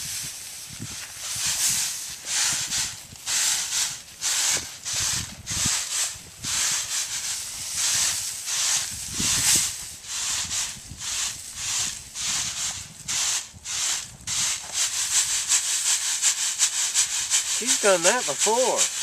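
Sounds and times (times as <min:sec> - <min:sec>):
rice swishing in winnowing tray: 0:00.0 - 0:19.0.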